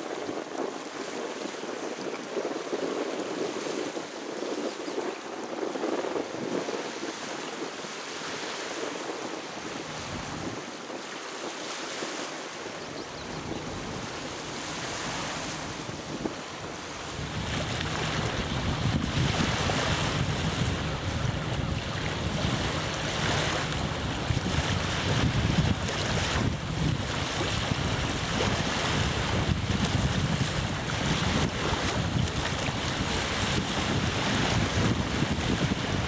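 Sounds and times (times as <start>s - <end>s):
small waves washing: 0.0s - 36.0s
wind on microphone: 0.0s - 36.0s.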